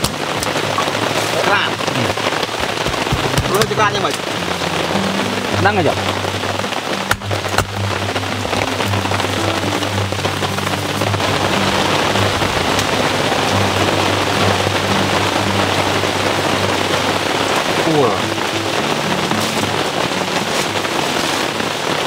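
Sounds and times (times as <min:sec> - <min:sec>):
low droning tones: 0:00.0 - 0:22.0
steady rain hiss: 0:00.0 - 0:22.0.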